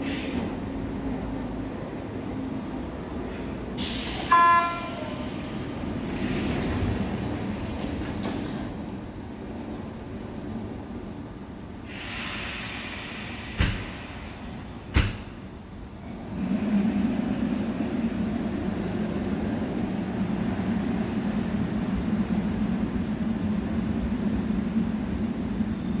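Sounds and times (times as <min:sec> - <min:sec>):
train running noise: 0:00.0 - 0:26.0.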